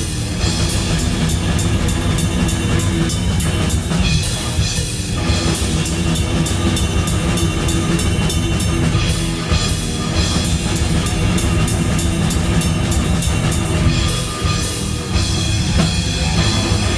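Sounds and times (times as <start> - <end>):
instrumental rock music: 0.0 - 16.9.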